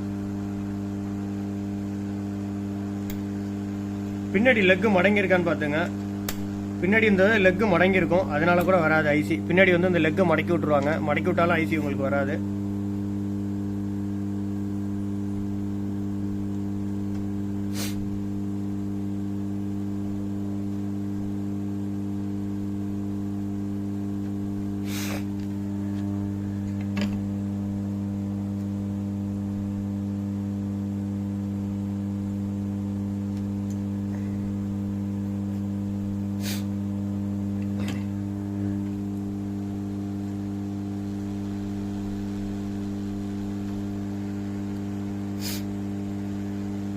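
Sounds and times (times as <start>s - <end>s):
electrical hum: 0.0s - 46.9s.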